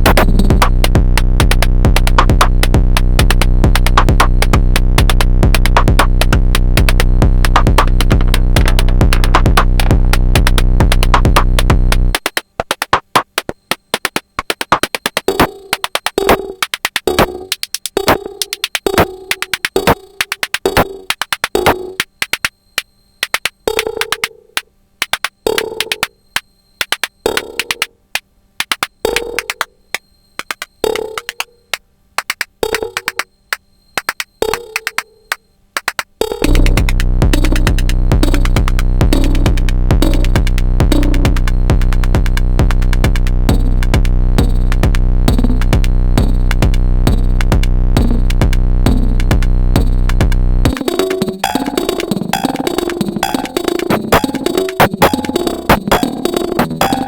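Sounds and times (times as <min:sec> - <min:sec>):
drum machine techno groove: 0:00.0 - 0:57.0
fast hi-hat ticks: 0:00.0 - 0:57.0.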